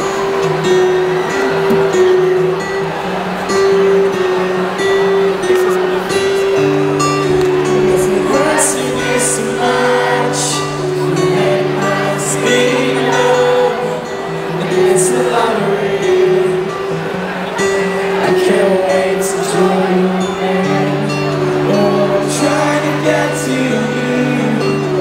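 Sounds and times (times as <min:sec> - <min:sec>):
guitar: 0:00.0 - 0:25.0
live rock ballad band: 0:00.0 - 0:25.0.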